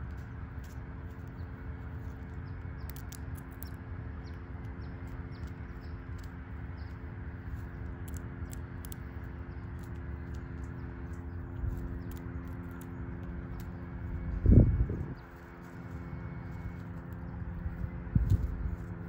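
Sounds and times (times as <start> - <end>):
faint hum: 0.0 - 19.0
low rumble: 0.0 - 19.0
squirrel cracking seeds: 0.0 - 19.0.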